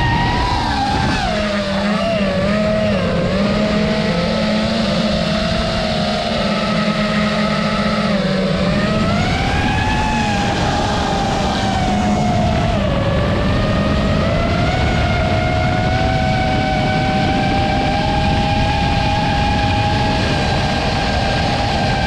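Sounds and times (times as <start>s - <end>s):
quadcopter motors whining: 0.0s - 22.0s
wind and propeller rush: 0.0s - 22.0s.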